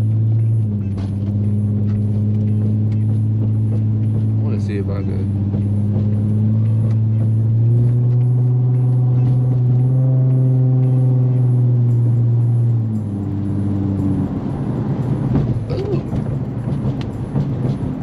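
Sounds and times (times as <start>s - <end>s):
car engine droning: 0.0s - 18.0s
road noise: 0.0s - 18.0s.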